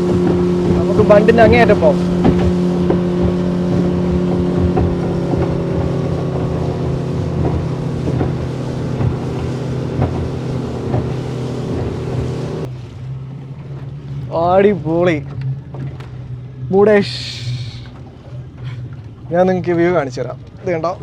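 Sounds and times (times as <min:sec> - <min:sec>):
boat motor running: 0:00.0 - 0:21.0
rushing water: 0:00.0 - 0:21.0.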